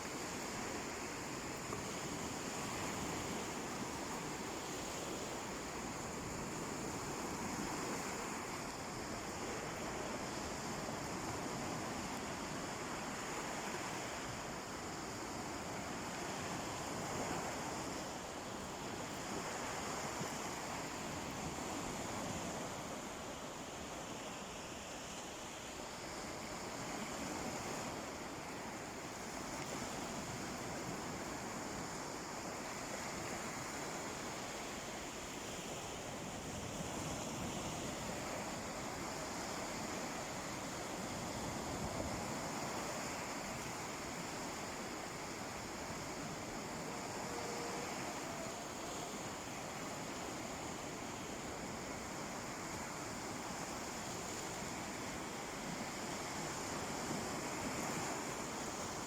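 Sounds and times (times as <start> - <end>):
sea waves washing on beach: 0.0 - 59.0.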